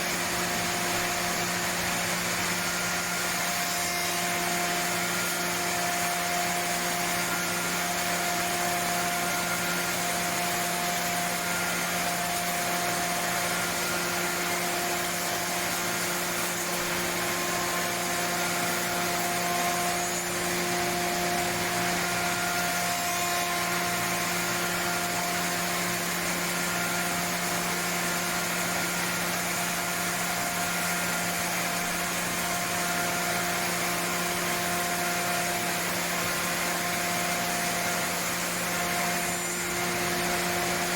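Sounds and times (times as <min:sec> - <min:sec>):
machine motor hum and whine: 0:00.0 - 0:40.9.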